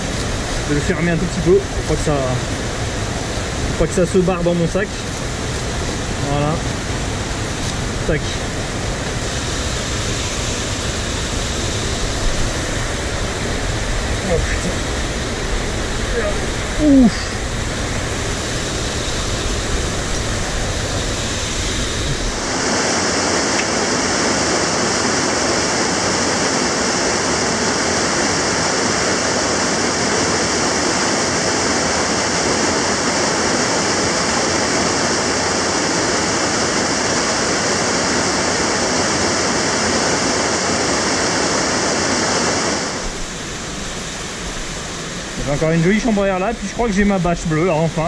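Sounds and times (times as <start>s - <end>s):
rushing mountain torrent: 0.0s - 48.0s.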